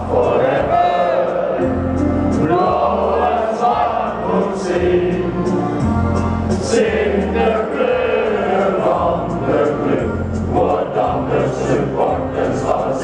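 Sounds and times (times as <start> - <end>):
crowd chanting: 0.0 - 13.0.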